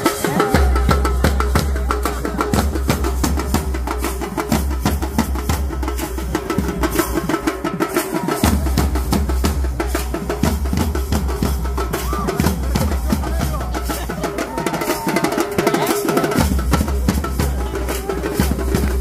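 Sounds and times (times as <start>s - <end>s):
barrel drums beaten with sticks: 0.0s - 19.0s.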